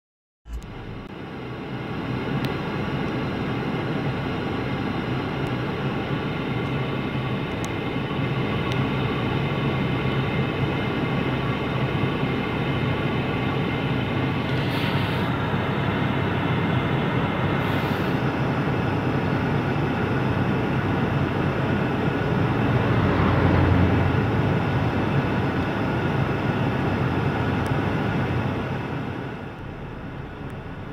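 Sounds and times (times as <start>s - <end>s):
car engine drone inside cabin: 0.5s - 30.9s.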